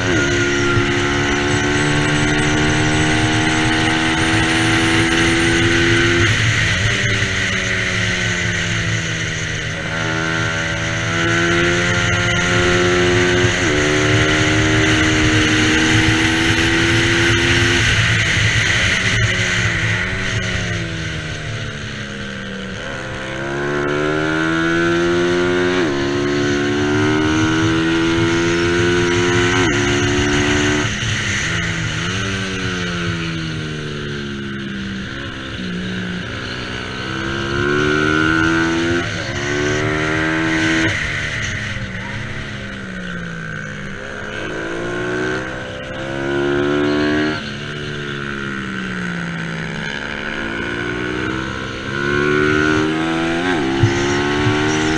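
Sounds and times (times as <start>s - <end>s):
motorcycle engine at full throttle: 0.0s - 54.9s.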